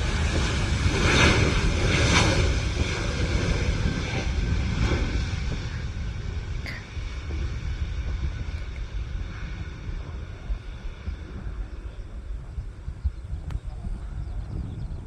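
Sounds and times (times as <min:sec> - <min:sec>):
jet engines rumbling: 0:00.0 - 0:15.0
wind noise on microphone: 0:00.0 - 0:15.0.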